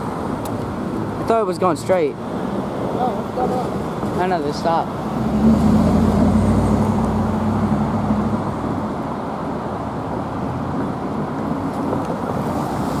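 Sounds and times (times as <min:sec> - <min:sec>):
rumble of cars and tyres: 0:00.0 - 0:13.0.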